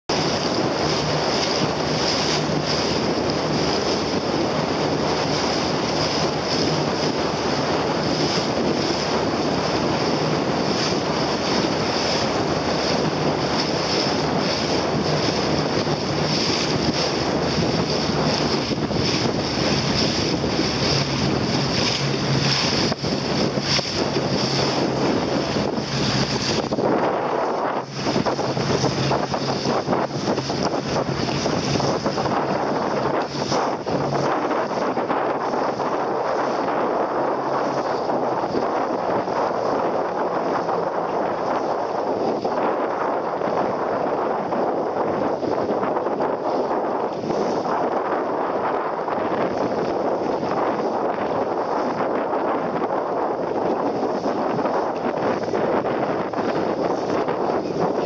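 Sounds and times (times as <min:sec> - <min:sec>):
sea water rushing past hull: 0:00.1 - 0:58.0
wind buffeting microphone: 0:00.1 - 0:58.0.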